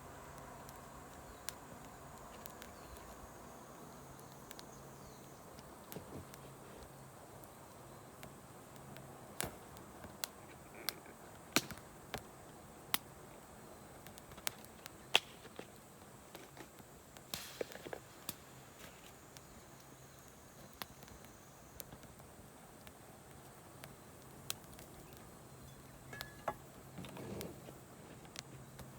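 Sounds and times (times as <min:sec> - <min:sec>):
campfire crackling and popping: 0:00.0 - 0:28.9
faint steady hiss: 0:00.0 - 0:28.9.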